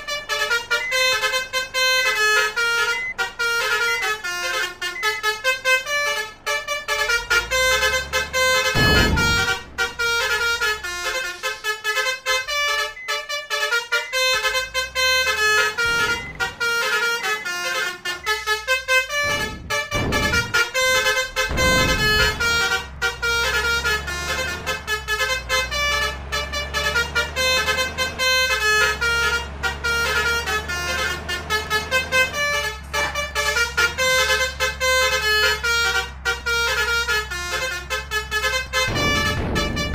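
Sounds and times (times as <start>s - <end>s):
multi-tone musical air horn: 0.0s - 39.9s
vehicle engine rumble: 0.0s - 39.9s.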